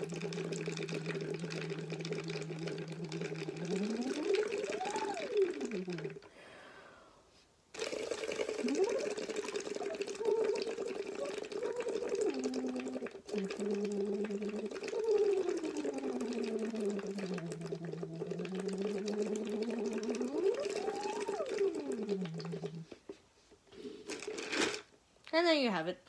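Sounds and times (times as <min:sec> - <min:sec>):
person humming through a straw into water: 0:00.0 - 0:06.2, 0:07.8 - 0:22.9.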